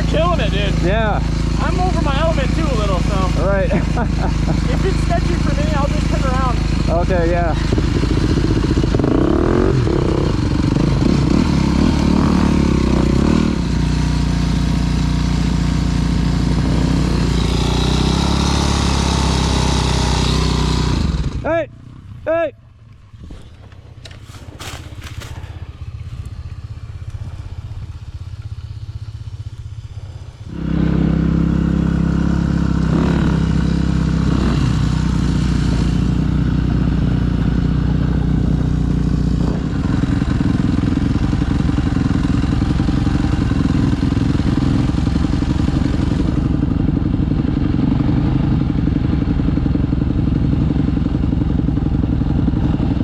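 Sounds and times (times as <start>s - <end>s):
dirt bike engine: 0.0s - 53.0s.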